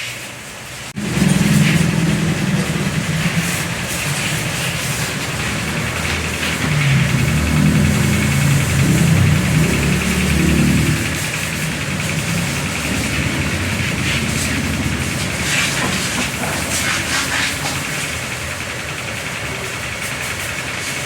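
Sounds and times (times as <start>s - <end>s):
brush scrubbing upholstery: 1.0s - 18.3s
motor running: 1.0s - 20.9s.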